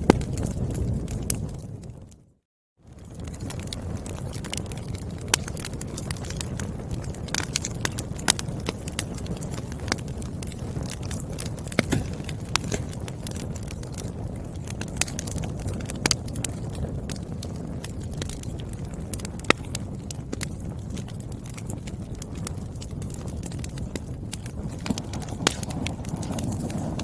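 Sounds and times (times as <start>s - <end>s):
firewood crackling and popping: 0.0s - 27.0s
low rumble of fire: 0.0s - 27.0s.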